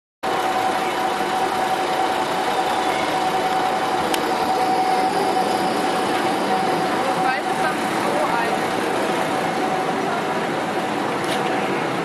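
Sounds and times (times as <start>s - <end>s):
street traffic hum: 0.2s - 12.0s.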